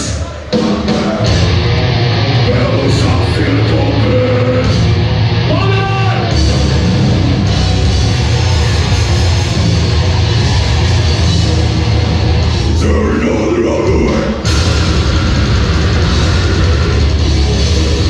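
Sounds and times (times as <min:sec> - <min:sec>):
death metal band playing live: 0:00.0 - 0:18.0.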